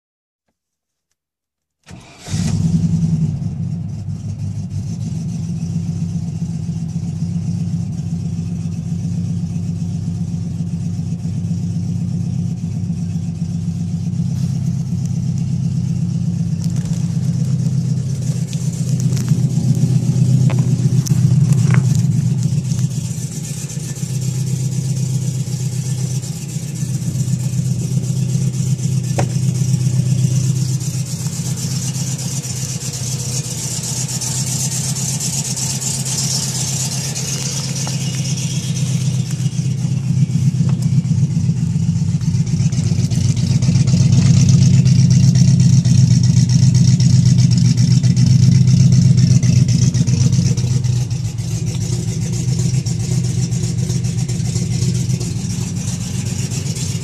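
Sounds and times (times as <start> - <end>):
car engine starting: 1.9 - 57.0
loud engine idle: 1.9 - 57.0.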